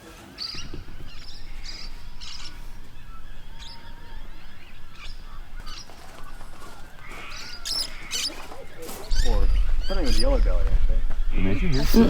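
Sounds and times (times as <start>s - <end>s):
birds chirping: 0.0s - 12.0s
steady low rumble: 0.6s - 12.0s.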